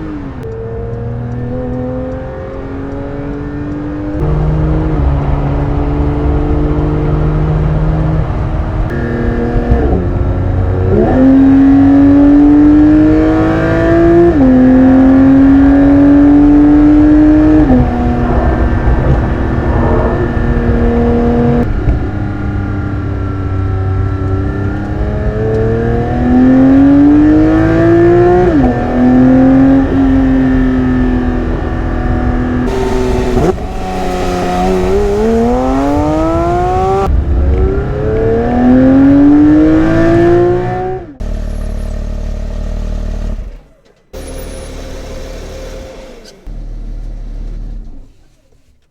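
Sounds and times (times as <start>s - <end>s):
car engine revving through gears: 0.0s - 48.2s.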